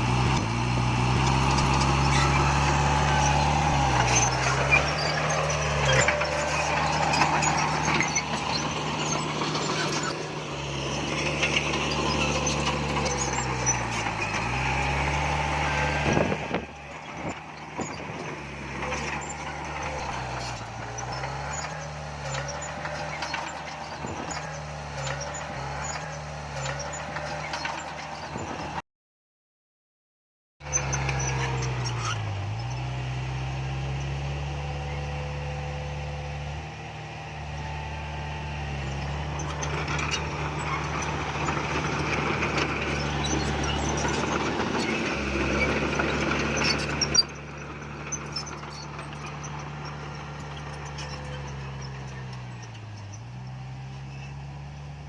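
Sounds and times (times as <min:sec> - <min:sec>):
diesel machinery engine running: 0:00.0 - 0:28.8, 0:30.6 - 0:55.0.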